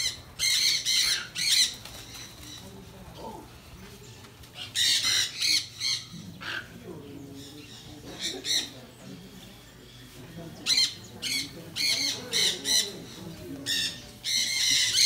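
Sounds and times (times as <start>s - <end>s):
birds squawking harshly: 0.0s - 3.6s, 4.5s - 15.0s.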